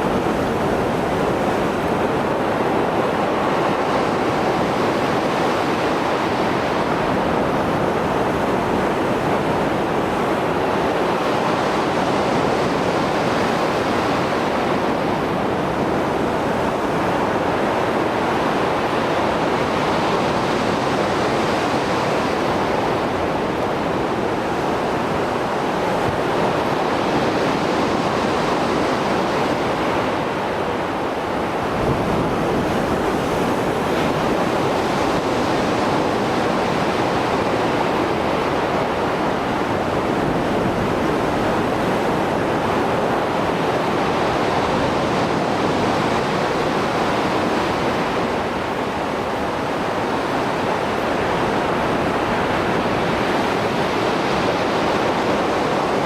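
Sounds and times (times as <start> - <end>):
waves breaking and washing ashore: 0.0 - 56.0.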